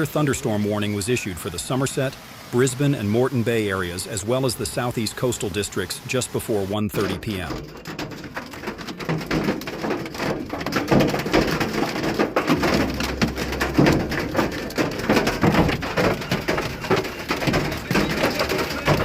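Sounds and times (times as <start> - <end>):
hailstones pelting a hard surface: 0.0 - 19.0.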